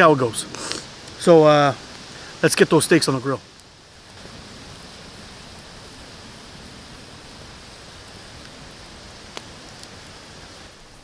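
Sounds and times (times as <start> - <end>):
campfire hissing: 0.0 - 11.0.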